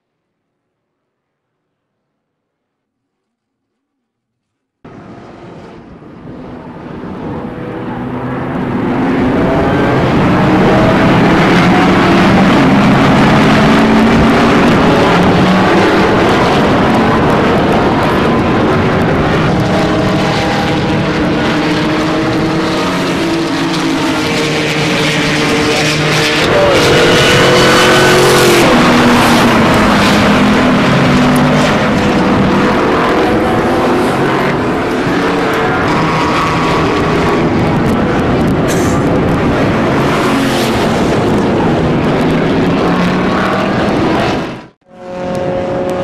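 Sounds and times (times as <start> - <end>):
race car engines: 4.8 - 46.0.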